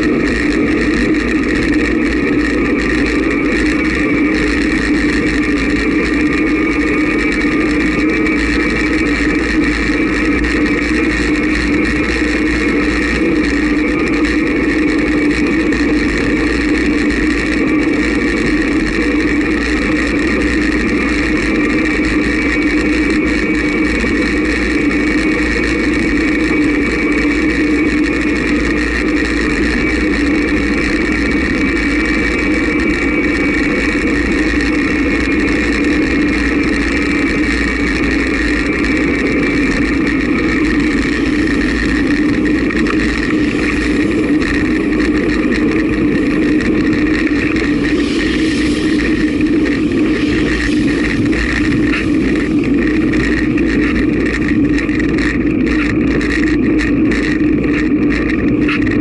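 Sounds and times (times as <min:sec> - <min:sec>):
motorcycle engine cruising: 0:00.0 - 0:59.0
wind rush: 0:00.0 - 0:59.0.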